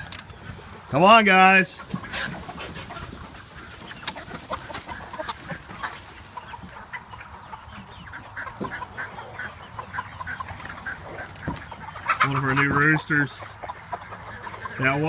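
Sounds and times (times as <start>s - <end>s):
chickens clucking: 0.0s - 15.0s
rustles in straw: 0.5s - 13.1s.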